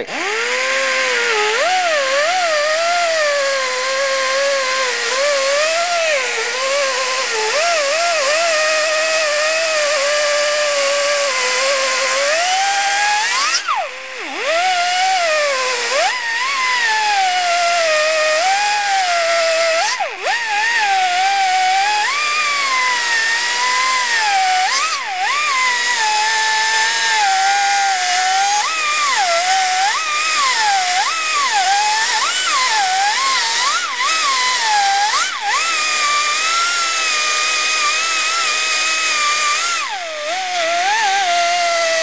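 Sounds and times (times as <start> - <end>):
air grinder high whine: 0.0 - 42.0.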